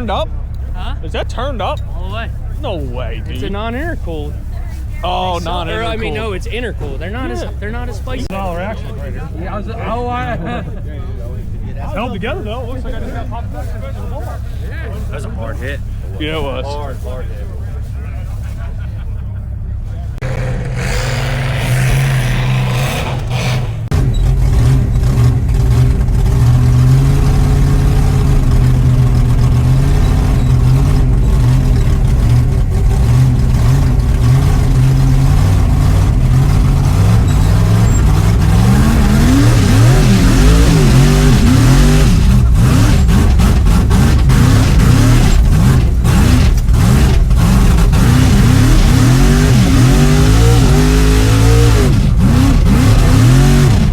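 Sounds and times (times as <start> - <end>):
truck engine running and revving: 0.0 - 53.9.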